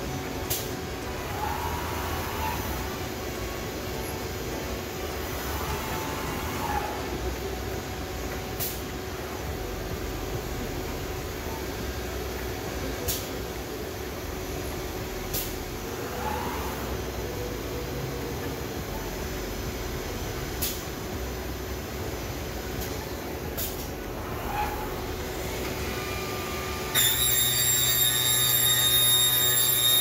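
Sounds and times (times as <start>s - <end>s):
machine mechanical hum: 0.0s - 30.0s.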